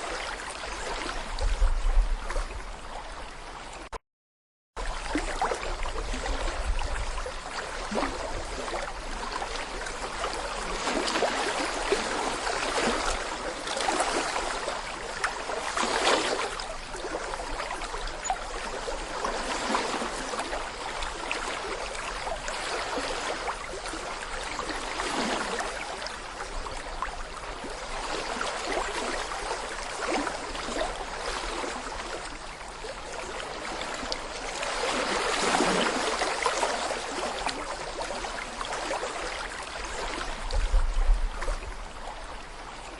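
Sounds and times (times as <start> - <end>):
brook babbling over stones: 4.8 - 42.9.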